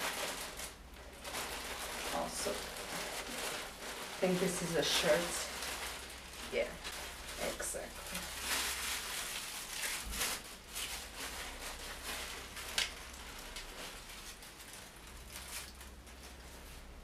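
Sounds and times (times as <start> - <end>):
plastic packaging crackling: 0.0 - 17.0.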